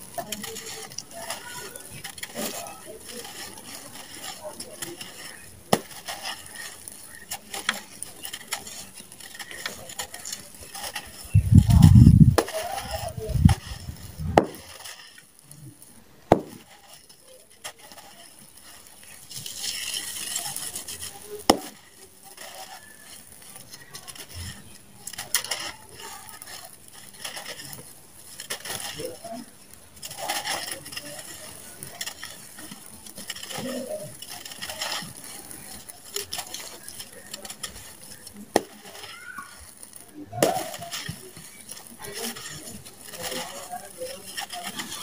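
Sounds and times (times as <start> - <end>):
grit and pebbles trickling: 0.0 - 45.0
hands crushing gritty lumps: 0.0 - 45.0
sharp cracks: 0.0 - 45.0.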